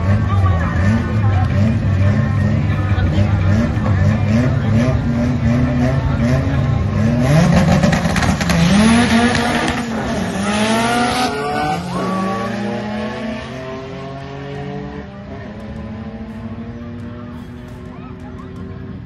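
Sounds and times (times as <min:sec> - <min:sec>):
drag car engines revving: 0:00.0 - 0:19.0.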